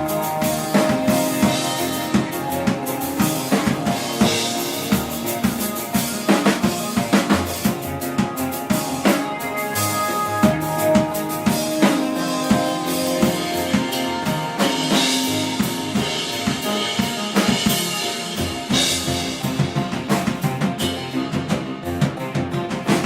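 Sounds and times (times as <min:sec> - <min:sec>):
drum kit kick and snare: 0:00.0 - 0:23.0.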